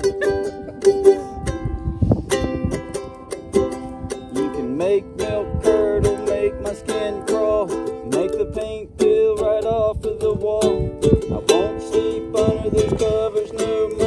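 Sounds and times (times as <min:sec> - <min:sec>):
person singing: 0:00.0 - 0:01.6, 0:04.3 - 0:14.0
ukulele strumming: 0:00.0 - 0:14.0.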